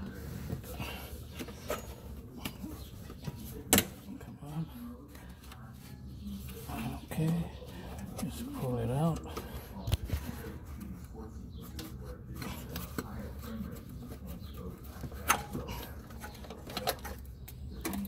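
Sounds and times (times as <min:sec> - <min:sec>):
gloved hand handling plastic: 0:00.0 - 0:18.0.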